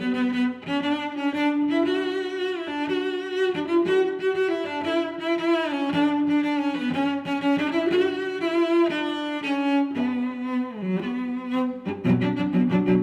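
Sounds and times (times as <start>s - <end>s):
bowed strings music: 0.0s - 13.0s.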